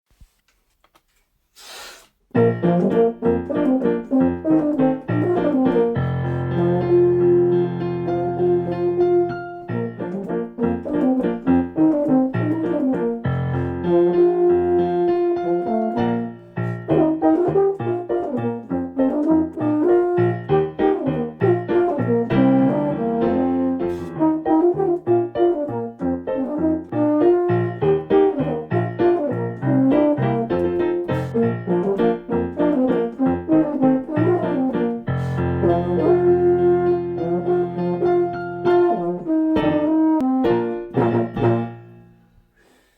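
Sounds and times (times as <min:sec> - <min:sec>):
piano accompaniment: 0:02.3 - 0:42.5
euphonium playing: 0:02.4 - 0:42.3.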